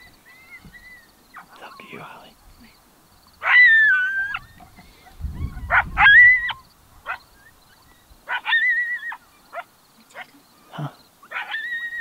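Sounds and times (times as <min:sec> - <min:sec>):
coyote barking and howling: 0:00.0 - 0:02.2, 0:03.4 - 0:10.3, 0:11.2 - 0:12.0.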